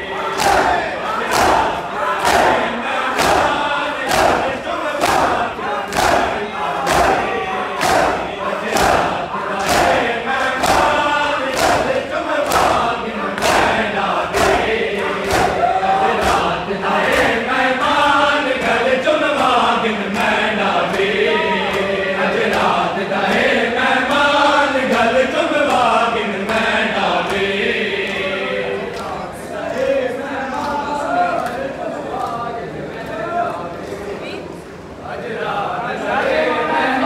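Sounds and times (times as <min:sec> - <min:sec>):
men chanting in unison: 0:00.0 - 0:32.6.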